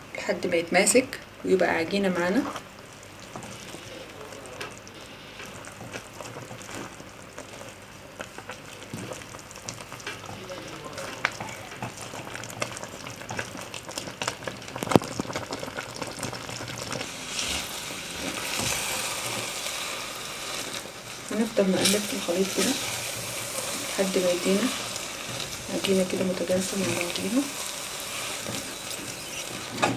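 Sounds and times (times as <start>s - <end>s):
mixture sizzling: 1.9s - 29.9s.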